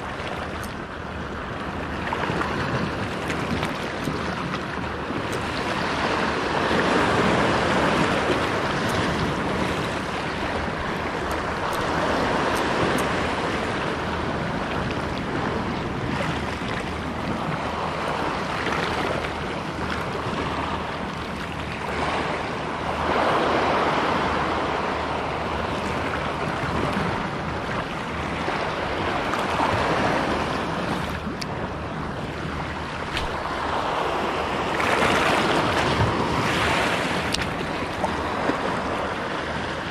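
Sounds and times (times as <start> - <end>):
water lapping at shore: 0.0 - 39.9
wind on microphone: 0.0 - 39.9.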